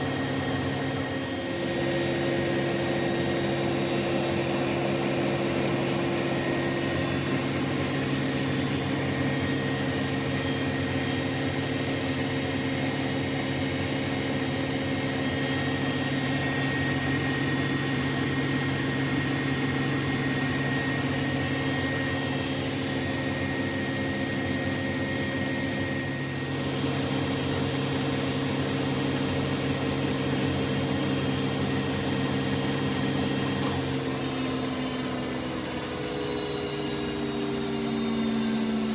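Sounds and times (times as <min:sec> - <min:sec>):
washing machine spinning: 0:04.8 - 0:38.9.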